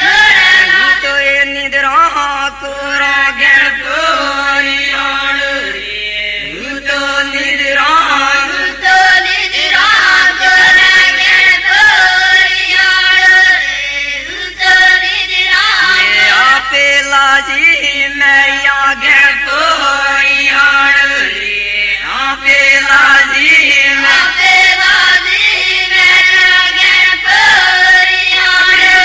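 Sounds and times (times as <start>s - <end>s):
group chanting a folk song: 0.0s - 29.0s.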